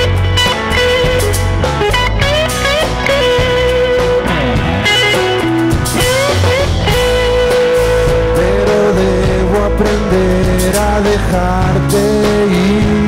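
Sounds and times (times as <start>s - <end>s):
bending guitar line: 0.0s - 13.0s
rock band playing: 0.0s - 13.0s.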